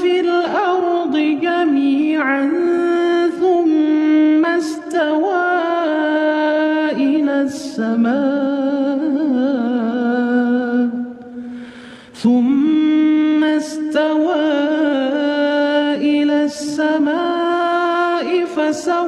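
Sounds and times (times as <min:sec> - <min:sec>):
solo voice chanting: 0:00.0 - 0:19.0.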